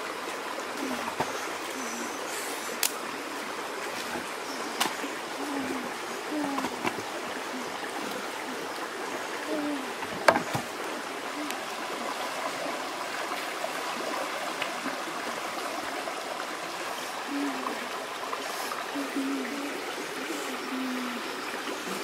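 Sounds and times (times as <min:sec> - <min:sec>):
stream trickling over stones: 0:00.0 - 0:22.0.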